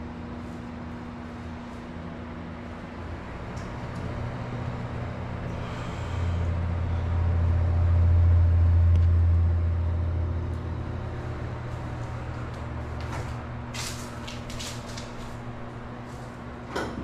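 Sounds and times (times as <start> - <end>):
fan airflow rumble on microphone: 0.0 - 17.0.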